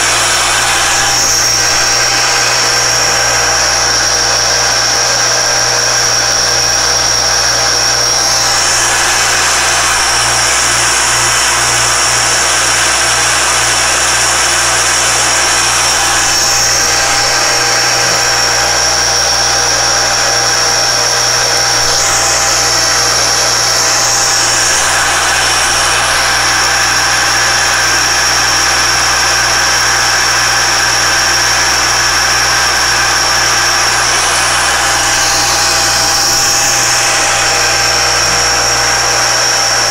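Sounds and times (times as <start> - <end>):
machine high whine: 0.0 - 39.9
spindle cutting metal: 0.0 - 39.9.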